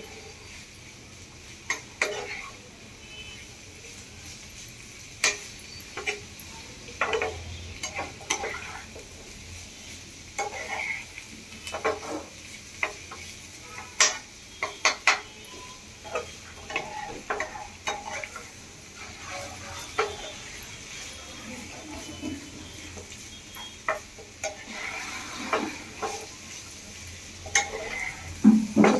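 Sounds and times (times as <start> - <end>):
frying oil sizzling: 0.0 - 28.9
metal spoon scraping a pan: 1.6 - 3.4, 5.2 - 9.1, 10.3 - 26.8, 27.4 - 28.9.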